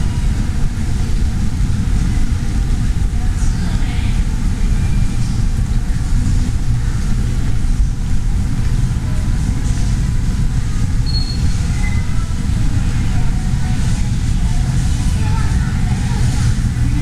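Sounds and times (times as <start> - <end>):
low rumble of terminal hall: 0.0 - 17.0.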